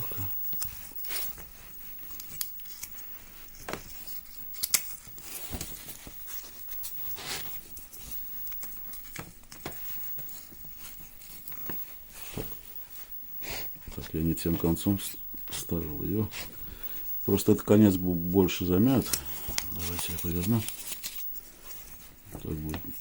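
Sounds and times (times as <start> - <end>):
stiff paper rustling and scraping: 0.6 - 23.0.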